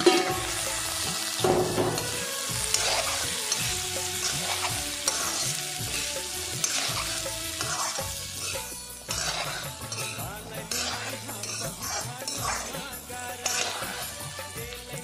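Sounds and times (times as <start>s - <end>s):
food sizzling in a pan: 0.0s - 15.0s
metal spatula scraping a pan: 0.0s - 15.0s.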